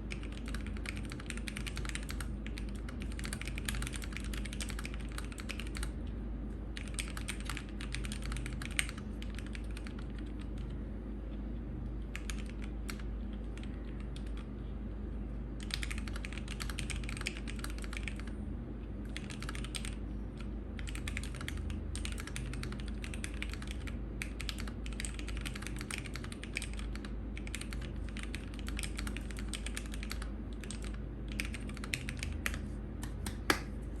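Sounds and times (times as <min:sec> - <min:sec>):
mechanical keyboard typing: 0:00.1 - 0:05.9, 0:06.8 - 0:10.7, 0:12.1 - 0:14.5, 0:15.6 - 0:18.3, 0:19.1 - 0:33.7.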